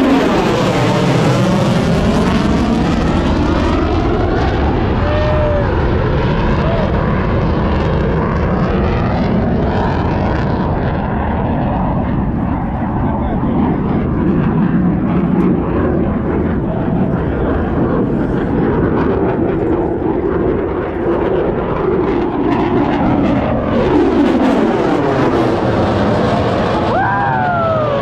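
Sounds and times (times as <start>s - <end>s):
fighter jet flying past: 0.0s - 28.0s.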